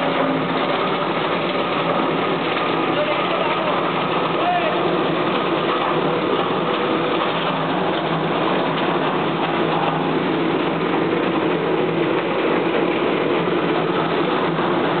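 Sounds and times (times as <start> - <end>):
dehuller machine rattling: 0.0 - 15.0.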